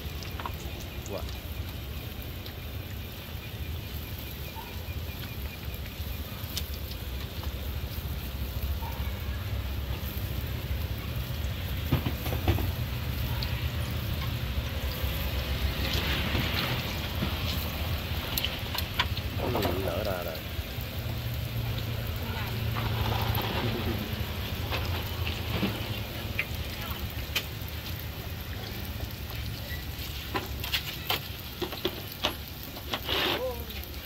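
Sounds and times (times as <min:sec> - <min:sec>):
dough sizzling in hot oil: 0:00.0 - 0:34.0
small crackles: 0:00.0 - 0:34.0.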